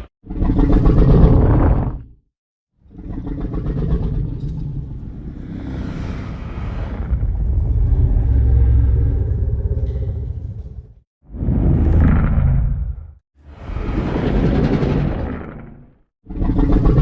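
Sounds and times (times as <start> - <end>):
deep rumbling monster growl: 0.0 - 2.2, 2.8 - 17.0.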